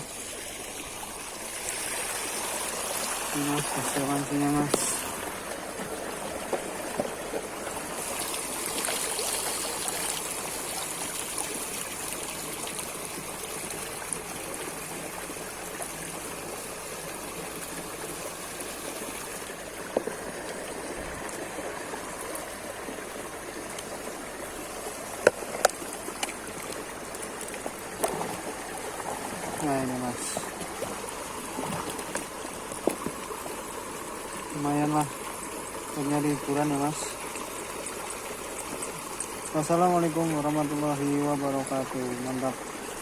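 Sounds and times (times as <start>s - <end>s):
river water running: 0.0s - 43.0s.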